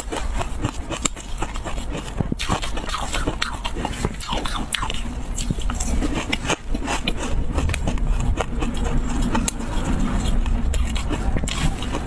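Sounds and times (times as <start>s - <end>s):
crunchy chewing: 0.0s - 12.0s
low hum: 0.0s - 12.0s.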